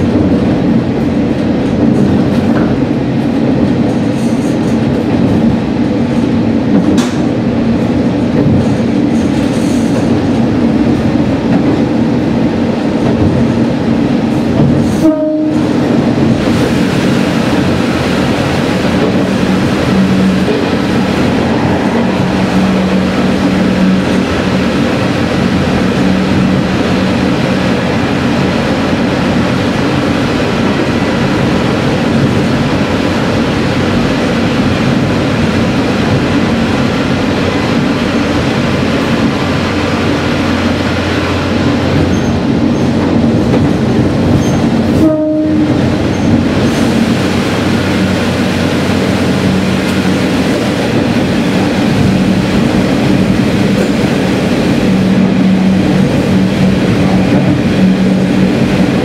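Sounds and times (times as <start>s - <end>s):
diesel railcar running in tunnel: 0.0s - 59.0s.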